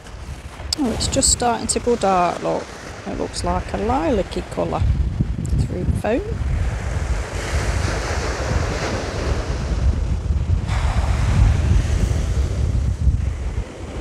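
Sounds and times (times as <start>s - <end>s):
surf washing up a beach: 0.0s - 14.0s
wind rumbling on microphone: 0.0s - 14.0s.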